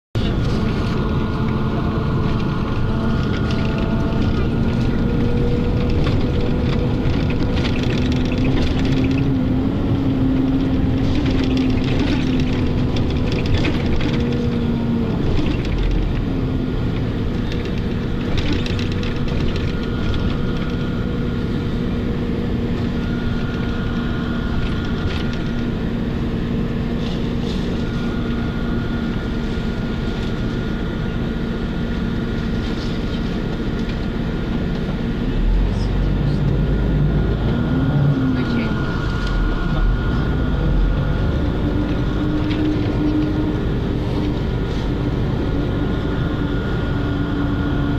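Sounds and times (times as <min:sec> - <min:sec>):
vehicle hum and rumble: 0:00.0 - 0:47.9.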